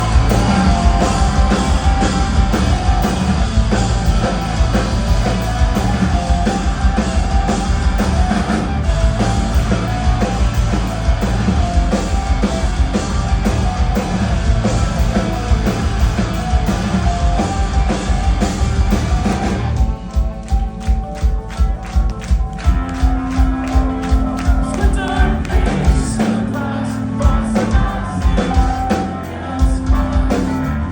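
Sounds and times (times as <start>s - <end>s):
distorted electric guitars: 0.0s - 30.9s
pounding drum kit: 0.0s - 30.9s
rock band playing live: 0.0s - 30.9s.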